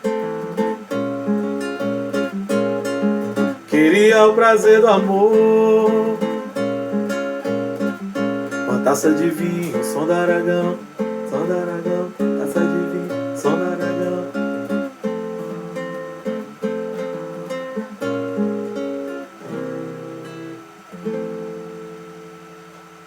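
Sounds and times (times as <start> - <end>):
acoustic guitar playing chords: 0.0 - 23.0.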